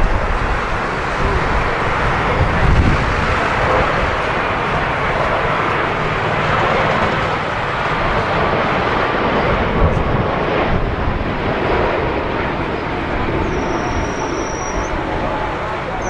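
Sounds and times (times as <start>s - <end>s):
jet airliner engines: 0.0s - 16.0s
wind rumbling on microphone: 0.0s - 16.0s.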